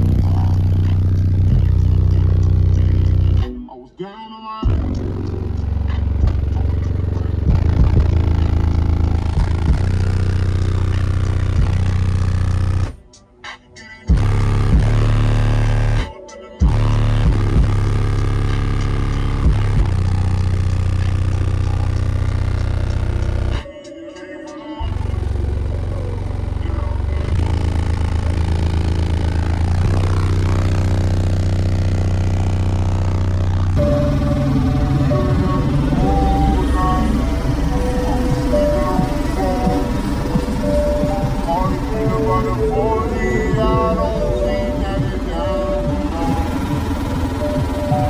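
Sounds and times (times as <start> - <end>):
bass-heavy music on subwoofers: 0.0 - 48.0.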